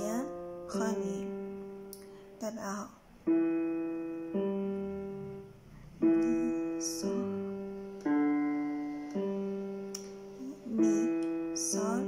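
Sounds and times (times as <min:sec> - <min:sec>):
digital piano single notes: 0:00.0 - 0:12.0.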